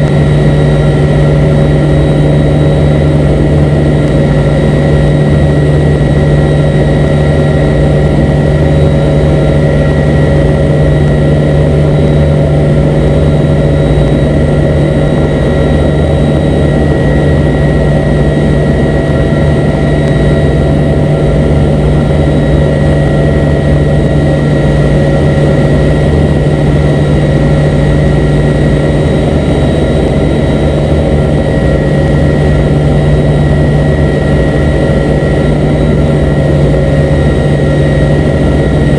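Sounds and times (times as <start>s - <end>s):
turboprop engines droning: 0.0s - 38.9s.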